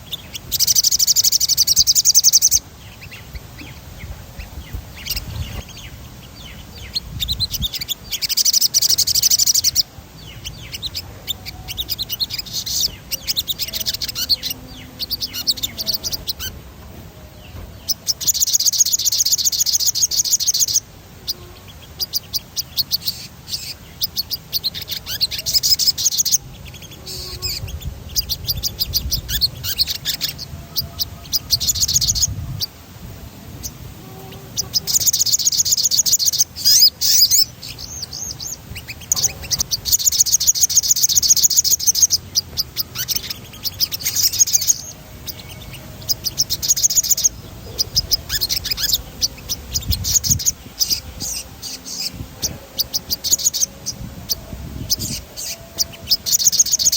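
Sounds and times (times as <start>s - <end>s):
bird singing rapid high trills: 0.0s - 56.9s.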